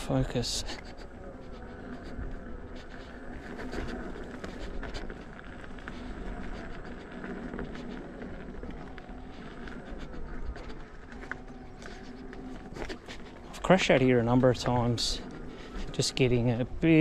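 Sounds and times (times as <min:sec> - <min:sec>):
electric unicycle rolling with hum: 0:00.0 - 0:17.0
tyre crackling over grit: 0:00.0 - 0:17.0.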